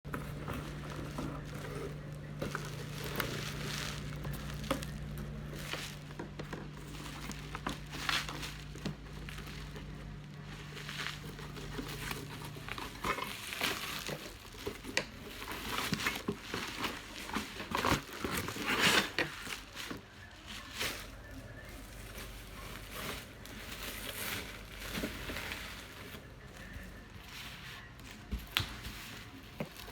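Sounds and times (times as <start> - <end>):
packaging crinkling and rustling: 0.1 - 29.9.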